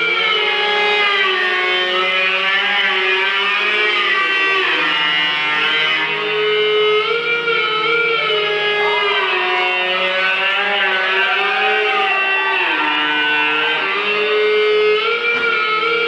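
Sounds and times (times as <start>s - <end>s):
live band with sliding guitars: 0.0s - 16.0s.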